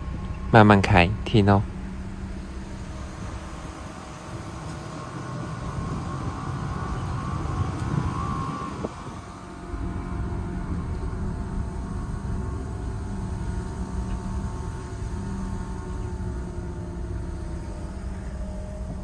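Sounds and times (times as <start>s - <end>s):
car driving low rumble: 0.0s - 19.0s
faint whine: 0.0s - 19.0s.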